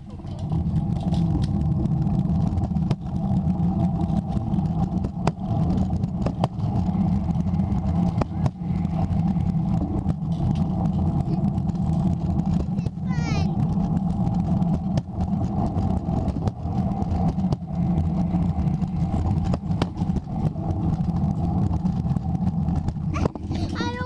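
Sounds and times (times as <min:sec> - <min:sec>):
scooter wheels rolling on concrete: 0:00.0 - 0:24.0
wheels clicking over joints: 0:00.0 - 0:24.0.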